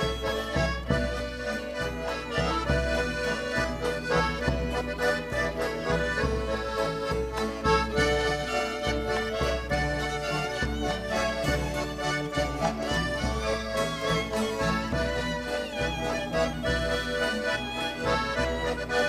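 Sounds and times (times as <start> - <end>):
bowed double bass: 0.0 - 19.0
button accordion: 0.0 - 19.0
frame drum: 0.0 - 19.0
guitar: 0.0 - 19.0
violin: 0.0 - 19.0.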